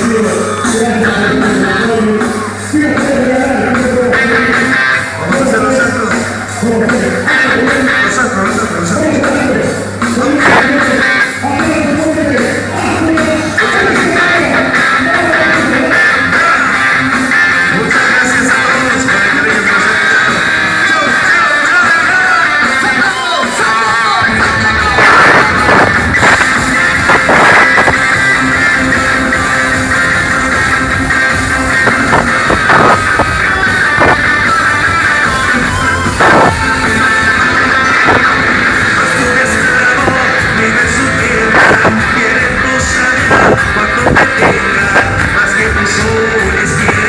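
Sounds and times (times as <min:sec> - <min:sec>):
bass and drums: 0:00.0 - 0:47.0
live band music: 0:00.0 - 0:47.0.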